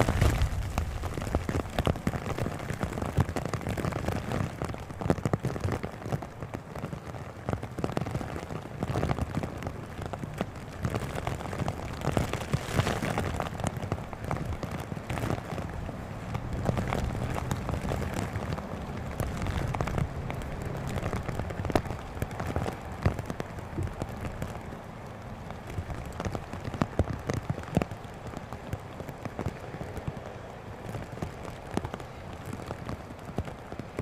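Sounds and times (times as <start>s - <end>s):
gusty wind: 0.0s - 34.0s
rain pattering: 0.0s - 34.0s.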